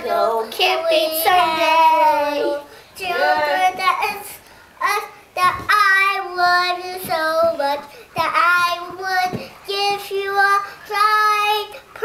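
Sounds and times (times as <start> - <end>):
young child singing: 0.0 - 12.0.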